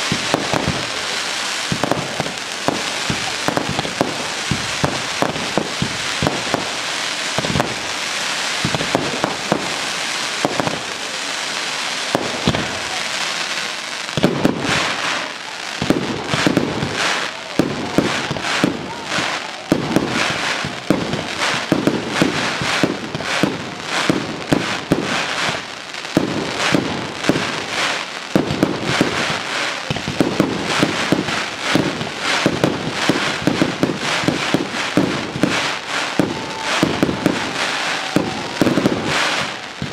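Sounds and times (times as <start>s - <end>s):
fireworks fountains hissing and crackling: 0.0s - 39.9s
fireworks shells bursting with bangs: 0.0s - 39.9s.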